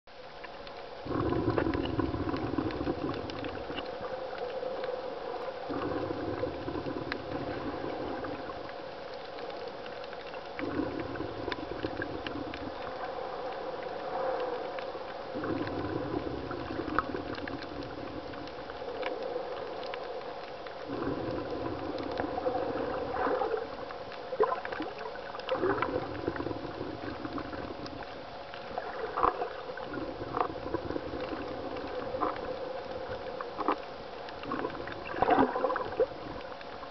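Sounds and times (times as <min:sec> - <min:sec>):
clicks and crackles: 0:00.1 - 0:36.9
steady faint hum: 0:00.1 - 0:36.9
underwater churning water: 0:00.1 - 0:36.9.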